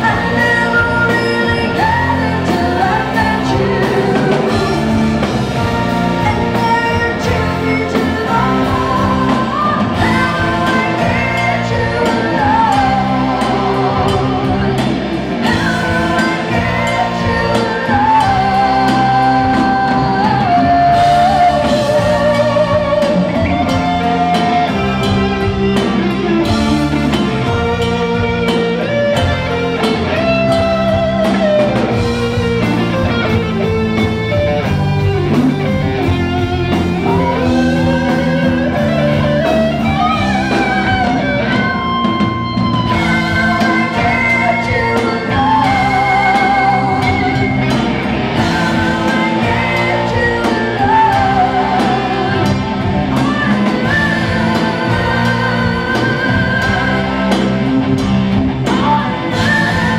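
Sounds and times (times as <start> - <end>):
electric guitar solo: 0.0 - 59.9
rock band playing: 0.0 - 59.9.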